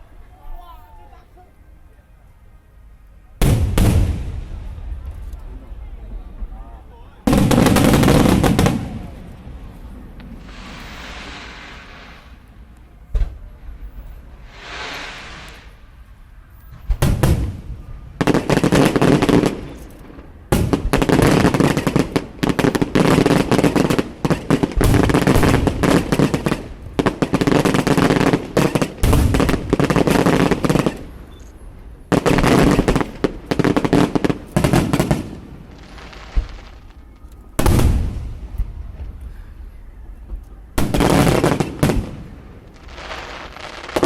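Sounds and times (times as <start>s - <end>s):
fireworks bangs and crackling: 3.4s - 16.1s, 16.7s - 44.0s.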